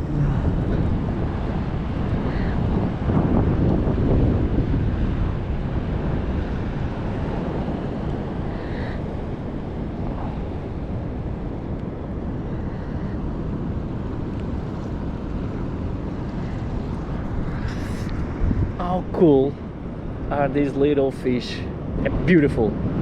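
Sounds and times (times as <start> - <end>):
ocean surf rushing: 0.0 - 23.0
wind buffeting microphone: 0.0 - 23.0.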